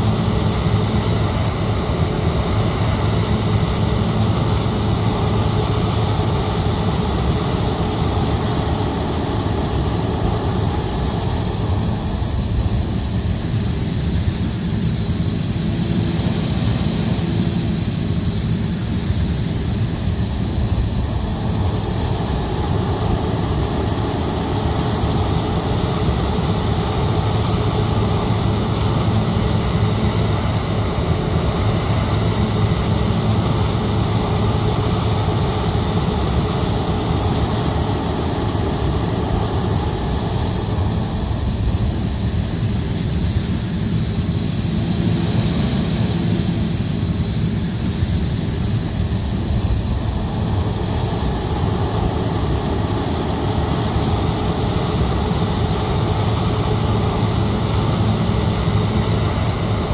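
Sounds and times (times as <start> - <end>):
harvester engine hum: 0.0 - 59.9
threshing high hiss: 0.0 - 59.9.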